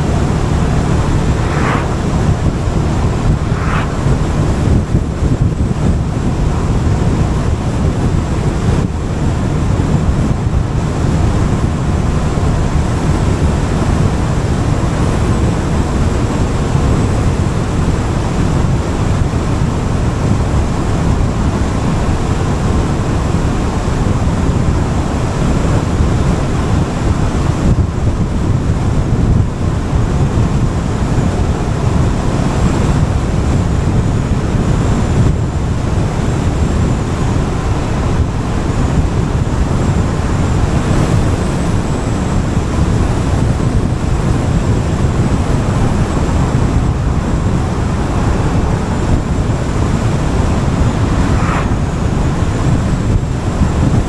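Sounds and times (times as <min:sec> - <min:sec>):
road noise: 0:00.0 - 0:54.0
wind buffeting microphone: 0:00.0 - 0:54.0.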